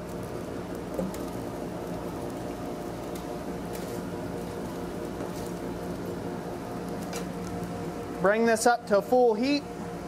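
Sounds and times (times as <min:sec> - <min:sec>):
forge blower humming: 0:00.0 - 0:10.0.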